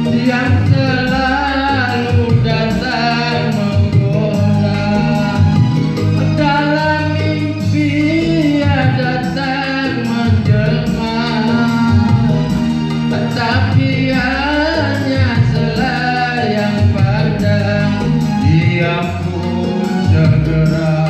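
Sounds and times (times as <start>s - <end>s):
electronic keyboard accompaniment: 0.0s - 21.0s
man singing into a microphone: 0.0s - 21.0s.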